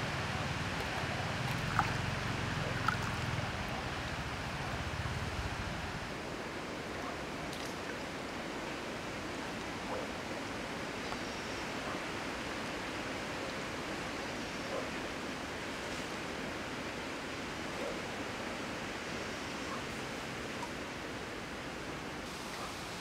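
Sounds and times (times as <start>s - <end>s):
flowing stream: 0.0s - 23.0s.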